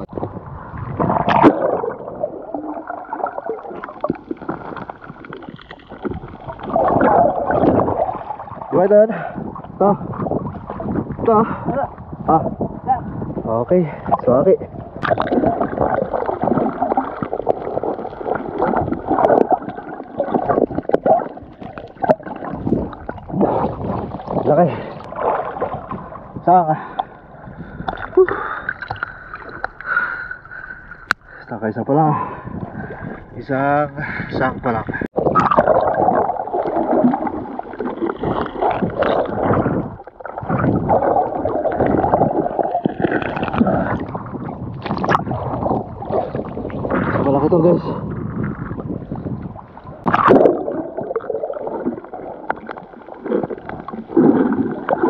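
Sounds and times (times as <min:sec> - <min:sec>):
muffled underwater gurgling: 0:00.0 - 0:55.0.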